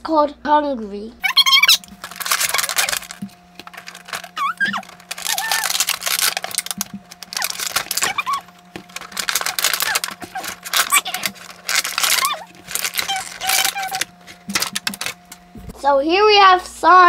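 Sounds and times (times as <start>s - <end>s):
plastic blister tray crackling: 1.3s - 15.6s.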